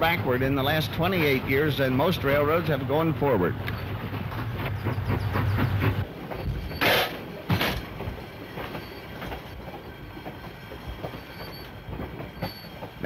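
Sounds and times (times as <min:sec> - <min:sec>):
train coaches clattering on rails: 0:00.0 - 0:13.0.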